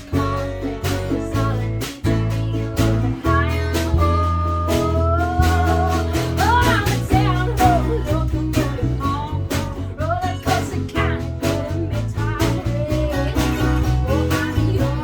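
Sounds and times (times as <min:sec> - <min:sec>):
country band playing live: 0:00.0 - 0:15.0
person singing: 0:00.0 - 0:15.0.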